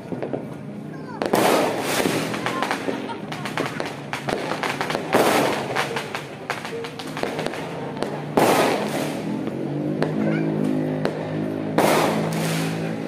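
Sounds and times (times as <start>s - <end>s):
fireworks popping and crackling: 0.0s - 13.0s
loud bangs: 1.2s - 13.0s.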